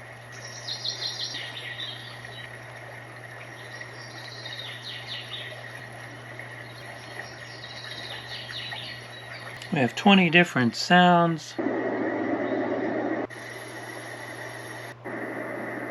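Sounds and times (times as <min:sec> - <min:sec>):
crickets chirping through speaker: 0:00.0 - 0:15.9
steady low hum: 0:00.0 - 0:15.9.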